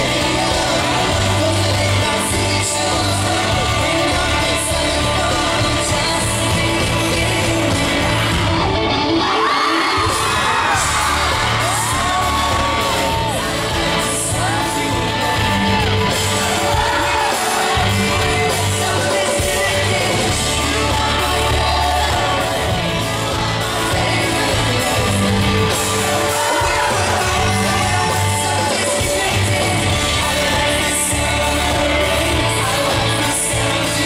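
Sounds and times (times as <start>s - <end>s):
audience shouting and singing along: 0.0s - 34.0s
live rock band playing: 0.0s - 34.0s
person singing: 0.0s - 34.0s.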